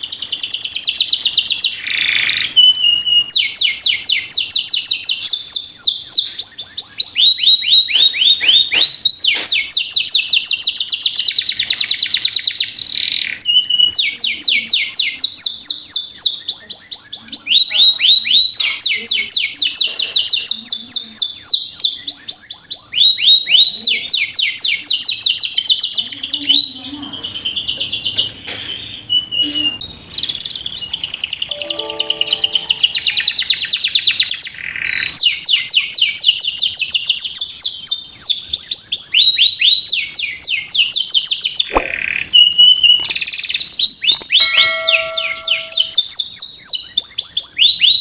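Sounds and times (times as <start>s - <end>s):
canary singing fast trills: 0.0s - 48.0s.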